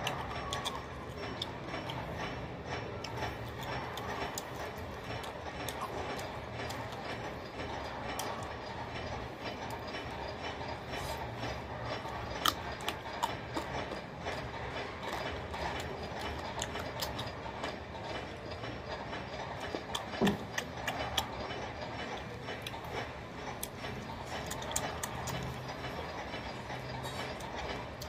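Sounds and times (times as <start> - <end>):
man chewing food: 0.0 - 28.0
steady low hum: 0.0 - 28.0.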